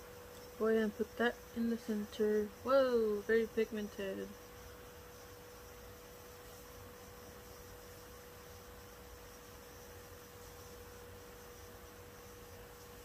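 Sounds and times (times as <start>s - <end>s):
faint steady hum: 0.0s - 13.0s
low background hiss: 0.0s - 13.0s.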